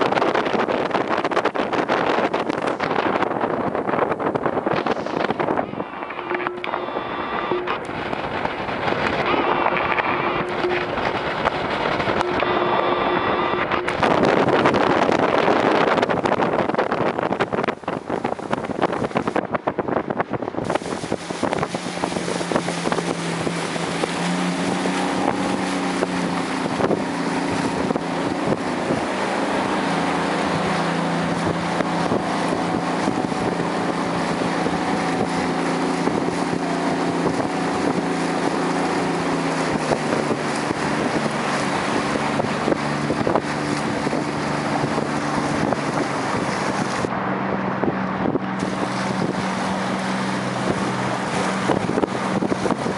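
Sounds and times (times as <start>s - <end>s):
motorboat engine running: 0.0s - 52.9s
wind rushing over microphone: 0.0s - 52.9s.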